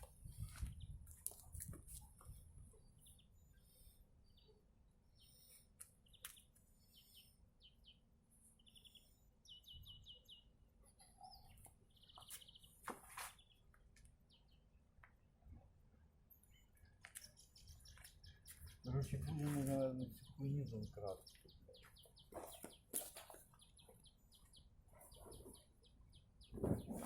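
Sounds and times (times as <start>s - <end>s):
small birds chirping and trilling: 0.0s - 27.0s.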